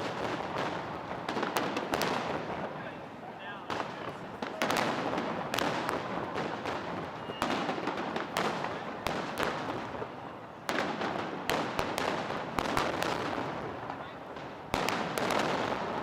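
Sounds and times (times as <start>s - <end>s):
firework bangs: 0.0s - 16.0s
firework crackle and rumble: 0.0s - 16.0s.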